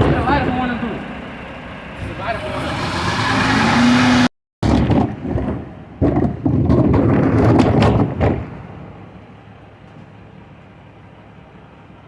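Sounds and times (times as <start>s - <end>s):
truck engine with low whine: 0.0s - 12.0s.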